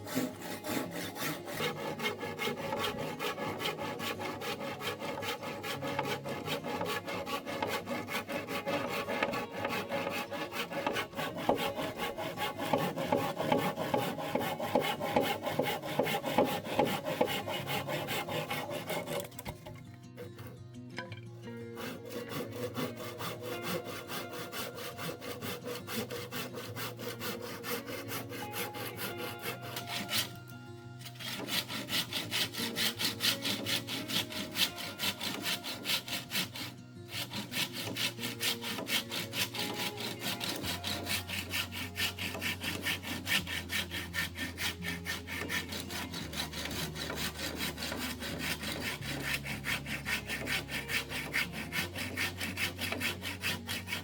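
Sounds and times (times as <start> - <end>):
saw cutting through wood: 0.0 - 20.6, 21.6 - 54.0
faint background music: 0.0 - 54.0.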